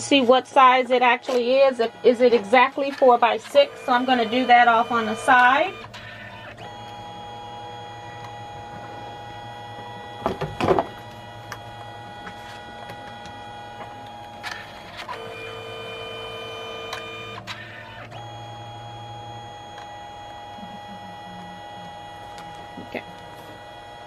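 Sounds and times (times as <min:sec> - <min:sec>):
printer motor whine: 0:00.0 - 0:24.0.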